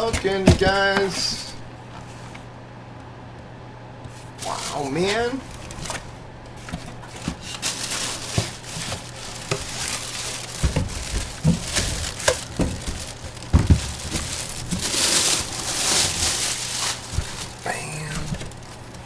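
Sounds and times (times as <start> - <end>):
plastic packaging crinkling: 0.0 - 2.5, 4.1 - 19.0.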